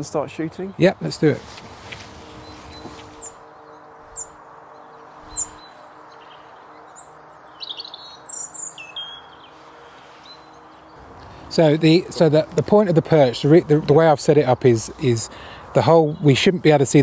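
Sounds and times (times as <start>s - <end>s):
small birds chirping: 0.0s - 17.0s
twittering birdsong: 0.0s - 17.0s.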